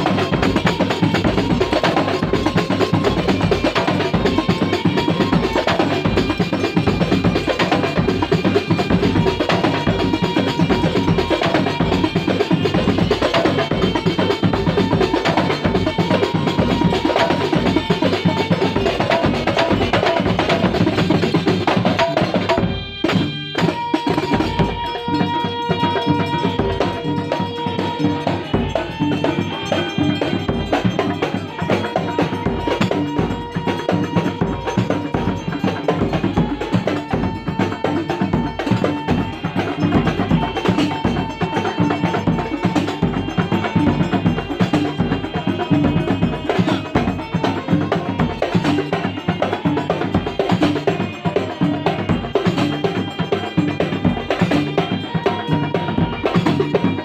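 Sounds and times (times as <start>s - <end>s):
drums and percussion rhythm: 0.0s - 57.0s
live ensemble music: 0.0s - 57.0s.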